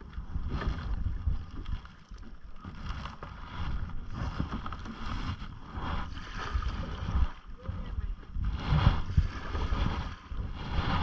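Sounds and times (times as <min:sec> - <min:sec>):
paddle strokes splashing water: 0:00.0 - 0:11.0
water lapping at hull: 0:00.0 - 0:11.0
wind rumble on microphone: 0:00.0 - 0:11.0.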